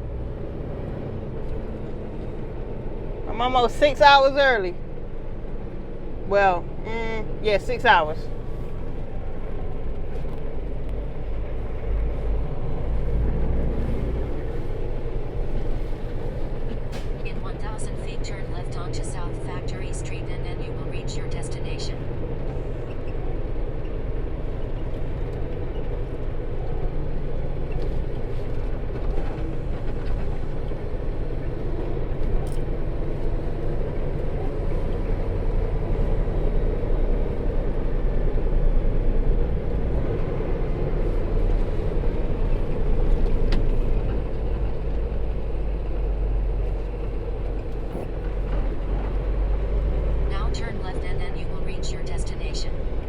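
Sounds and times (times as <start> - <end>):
diesel engine drone: 0.0 - 53.0
road noise: 0.0 - 53.0.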